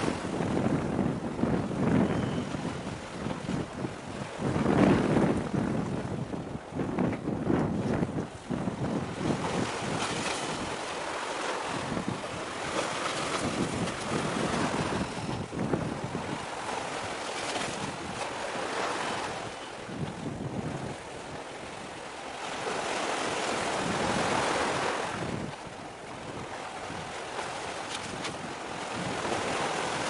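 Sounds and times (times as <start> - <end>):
waves washing: 0.0 - 30.0
wind buffeting the microphone: 0.0 - 30.0.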